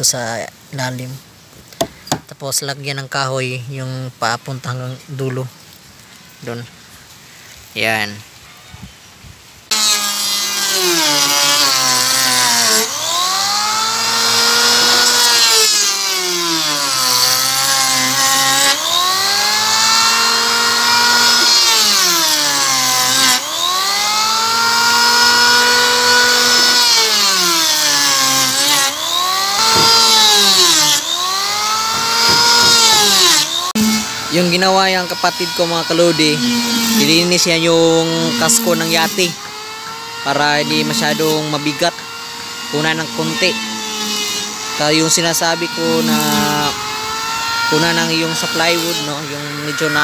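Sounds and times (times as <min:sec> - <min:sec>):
electric hand planer shaving wood: 0:09.7 - 0:50.0.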